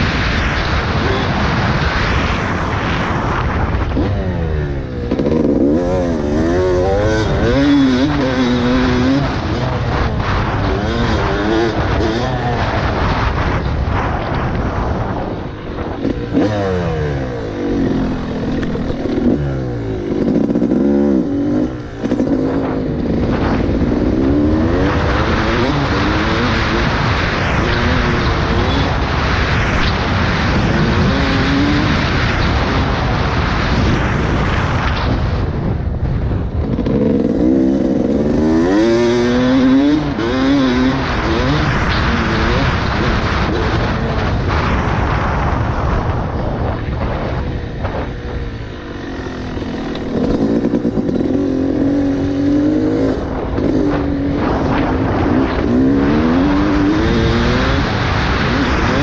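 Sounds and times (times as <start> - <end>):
dirt bike engine revving: 0.0 - 35.6, 36.5 - 59.0
constant rushing noise: 0.0 - 59.0.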